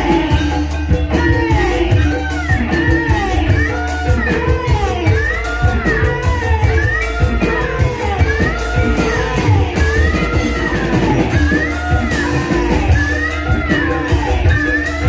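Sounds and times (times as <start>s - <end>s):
hand-drum strokes: 0.0s - 15.0s
sustained metallophone pitches: 0.0s - 15.0s.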